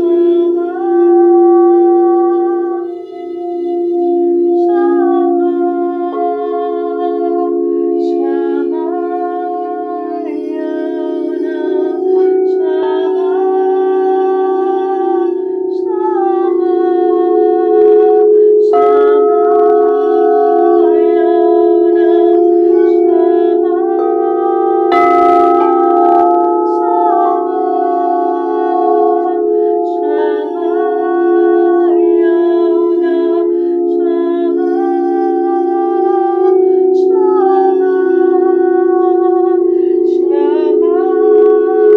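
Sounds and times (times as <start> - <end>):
person singing wordless tones: 0.0 - 41.9
singing bowls drone: 0.0 - 41.9.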